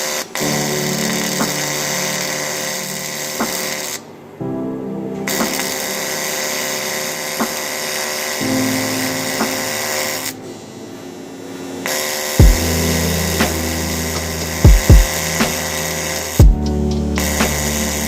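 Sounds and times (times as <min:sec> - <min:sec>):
welding arc buzzing hiss: 0:00.0 - 0:04.0, 0:05.3 - 0:10.4, 0:11.8 - 0:16.4, 0:17.2 - 0:18.0.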